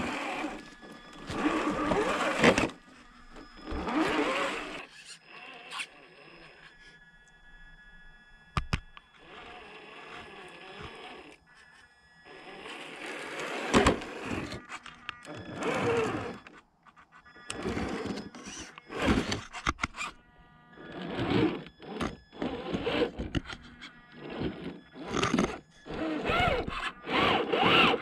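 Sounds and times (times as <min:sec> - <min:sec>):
rc car motor whining: 0:00.0 - 0:28.0.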